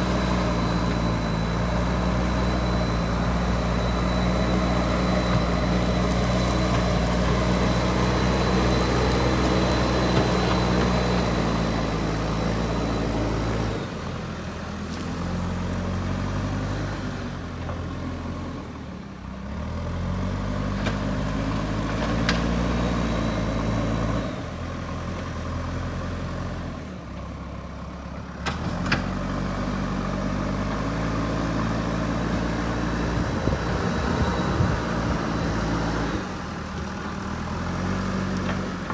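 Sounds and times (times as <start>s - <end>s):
diesel engine working: 0.0s - 38.9s.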